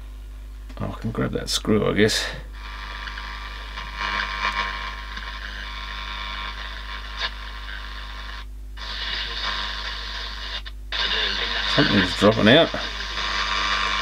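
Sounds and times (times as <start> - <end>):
radio speaker hiss: 1.5 - 14.0
radio crackle: 1.6 - 14.0.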